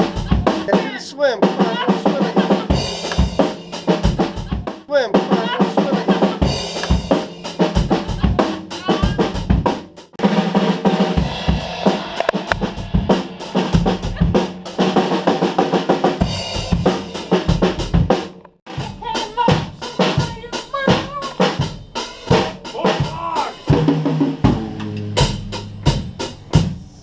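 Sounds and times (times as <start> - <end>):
drum kit groove: 0.0 - 27.0.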